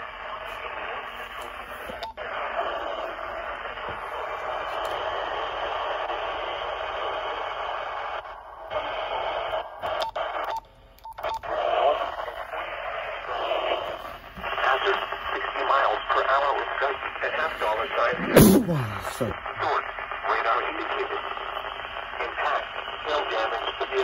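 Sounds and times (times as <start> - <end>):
radio static hissing: 0.0 - 10.6, 11.2 - 24.0.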